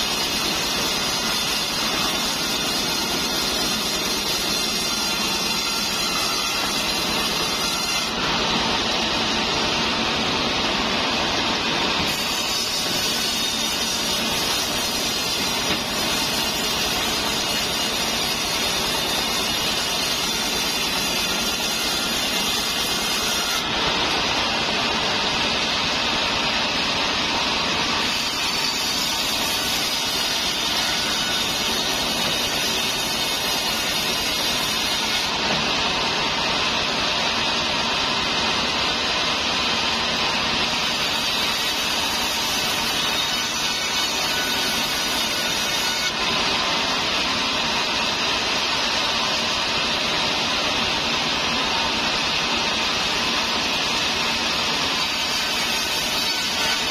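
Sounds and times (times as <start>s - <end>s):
band saw cutting log: 0.0s - 56.9s.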